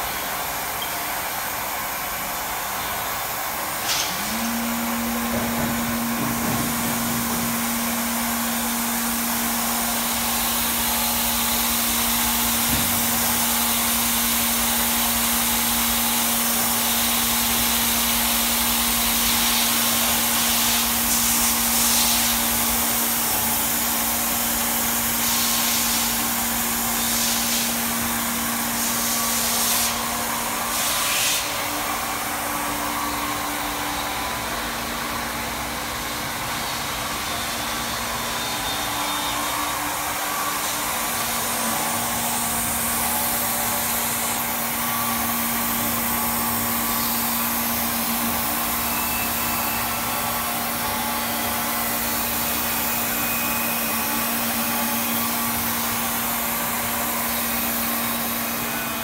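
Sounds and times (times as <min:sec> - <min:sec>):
milling machine hiss: 0:00.0 - 0:59.0.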